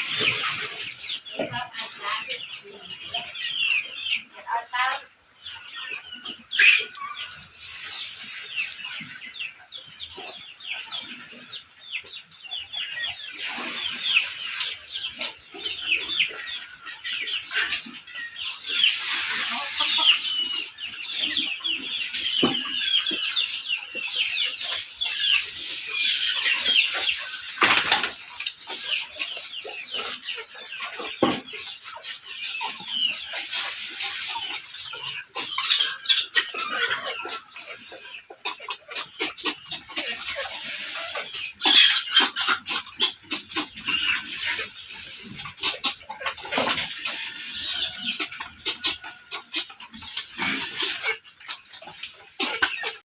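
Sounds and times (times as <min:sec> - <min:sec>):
chickens peeping and clucking: 0:00.0 - 0:53.0.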